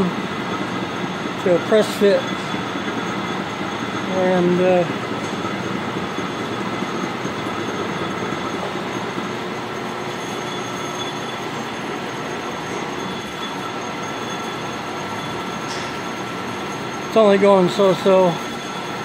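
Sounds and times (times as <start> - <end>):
faint high whine: 0.0 - 19.0
metal lathe machining pipe: 0.0 - 19.0.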